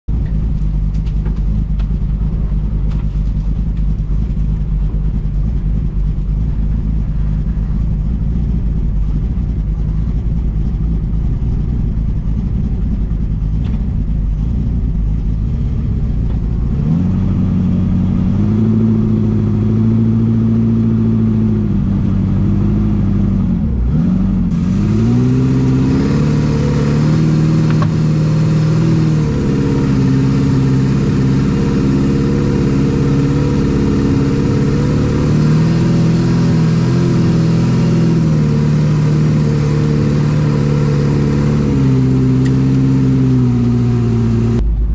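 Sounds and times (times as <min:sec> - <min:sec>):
vehicle engine revving: 0:00.1 - 0:44.9.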